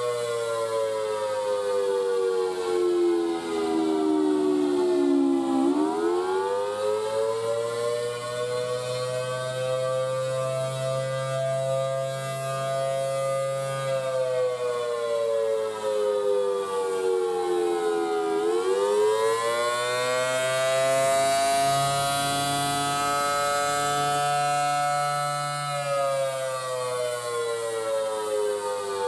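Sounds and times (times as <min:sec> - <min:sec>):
two-tone siren wailing: 0:00.0 - 0:29.0.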